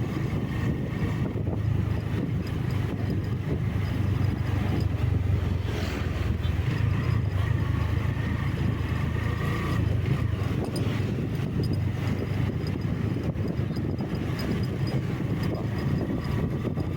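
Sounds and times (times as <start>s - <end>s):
engine and road rumble: 0.0s - 16.9s.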